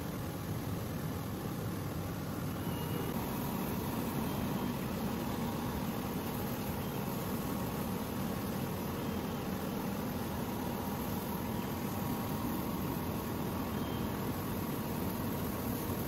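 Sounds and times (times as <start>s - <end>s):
laser cutting machine humming: 0.0s - 16.0s.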